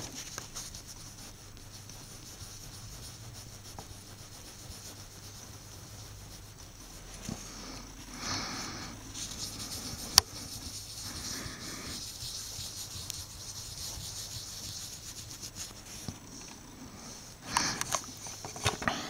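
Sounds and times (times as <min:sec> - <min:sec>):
cotton swab scrubbing: 0:00.0 - 0:18.7.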